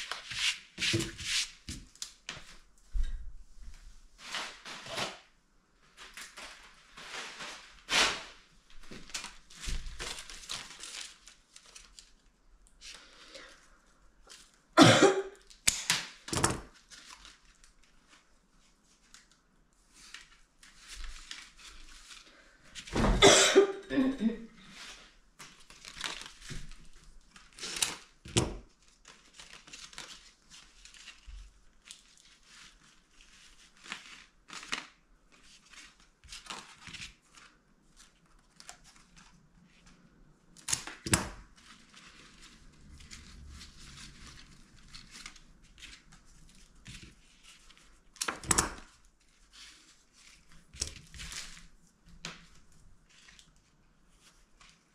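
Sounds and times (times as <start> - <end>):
crinkling and rustling of materials: 0.0 - 23.2, 23.8 - 54.9.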